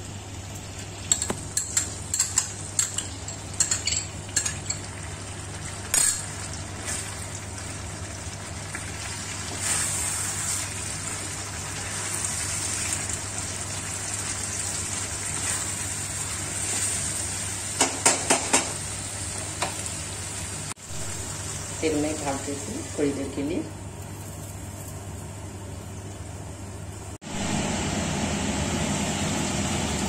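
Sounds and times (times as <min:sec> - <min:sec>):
chicken sizzling: 0:00.0 - 0:30.0.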